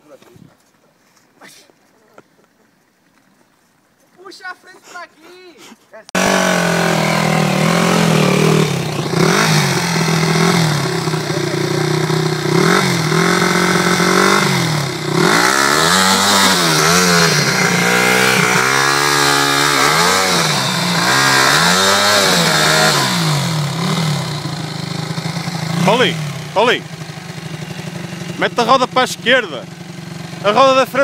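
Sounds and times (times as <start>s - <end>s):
motorcycle engine revving: 6.2s - 31.0s.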